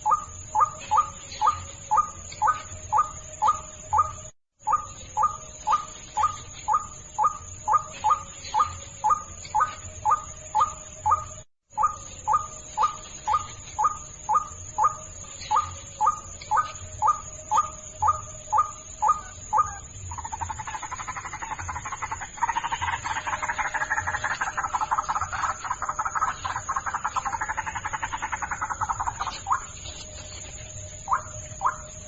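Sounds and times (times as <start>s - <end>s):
bird croaking chatter: 0.0s - 30.2s, 31.1s - 32.0s.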